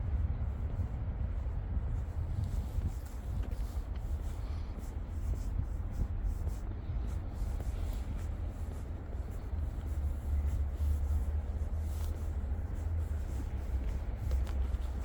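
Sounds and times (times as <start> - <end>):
low city street rumble: 0.0 - 15.0
crunching footsteps: 2.2 - 15.0.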